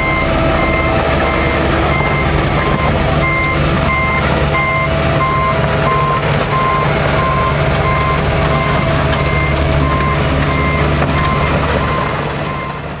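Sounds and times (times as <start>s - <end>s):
travel alarm beeping: 0.0s - 12.8s
excavator diesel engine running: 0.0s - 13.0s.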